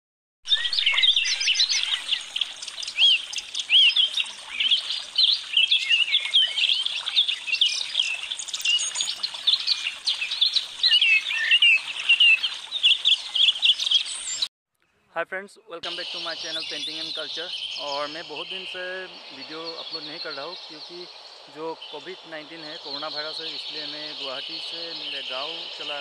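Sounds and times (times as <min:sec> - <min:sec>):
birds chirping and whistling: 0:00.5 - 0:14.5, 0:15.9 - 0:26.0.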